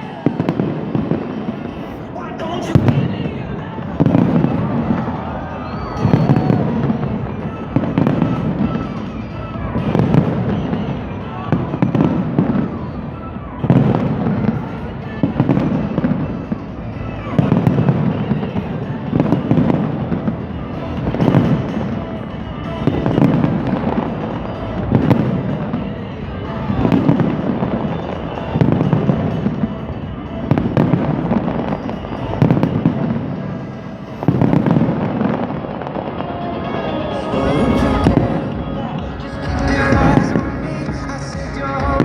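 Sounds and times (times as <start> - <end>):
fireworks booming and crackling: 0.0 - 42.0
music playing: 0.0 - 42.0.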